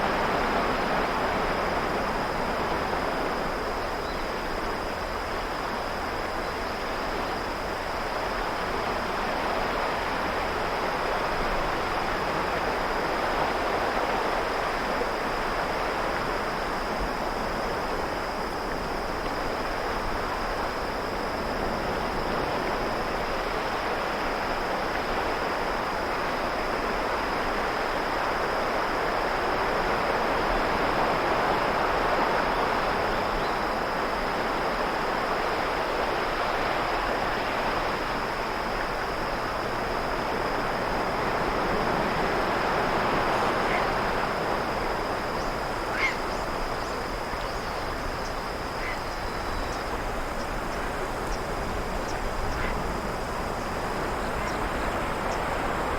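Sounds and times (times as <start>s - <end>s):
insects trilling: 0.0s - 55.9s
ocean surf washing ashore: 7.7s - 55.9s.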